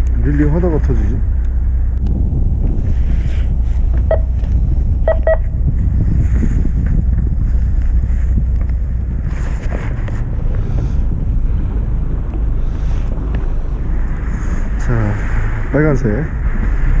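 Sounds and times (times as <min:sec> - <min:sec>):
boat engine low rumble: 0:00.0 - 0:17.0
wind buffeting microphone: 0:00.0 - 0:17.0.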